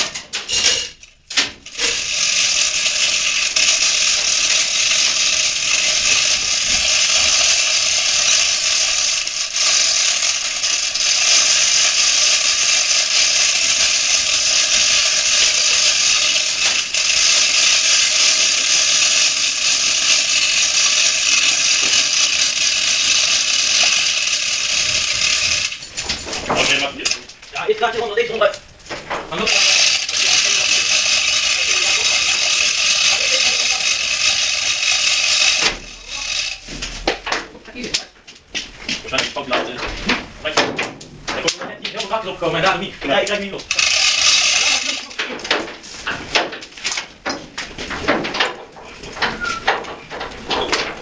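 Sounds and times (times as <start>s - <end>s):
chain hoist rattling: 0.0s - 37.0s, 42.0s - 51.0s.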